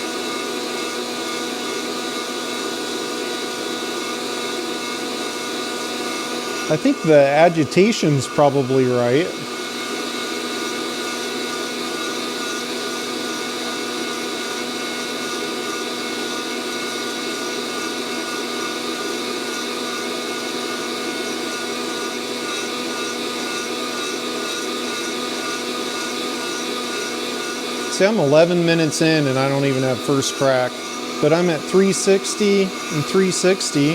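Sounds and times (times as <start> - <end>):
coffee roaster fan whirring: 0.0 - 33.9.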